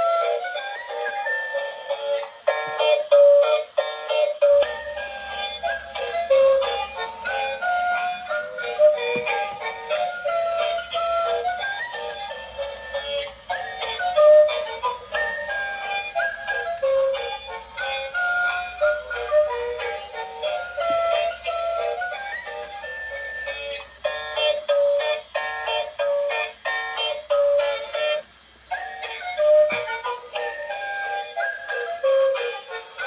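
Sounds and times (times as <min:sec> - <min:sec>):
toy playing tinny melody: 0:00.0 - 0:33.0.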